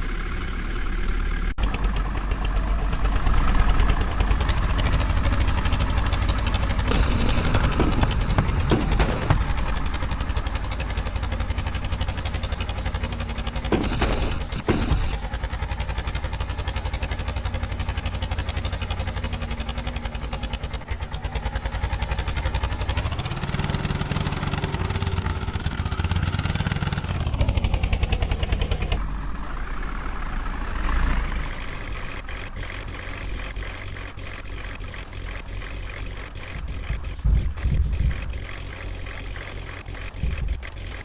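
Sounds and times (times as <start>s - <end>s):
diesel engine throbbing and revving: 0.0s - 41.0s.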